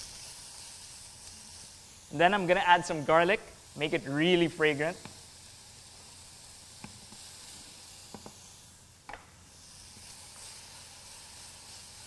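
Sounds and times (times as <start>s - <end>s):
meat and garlic frying: 0.0s - 12.0s.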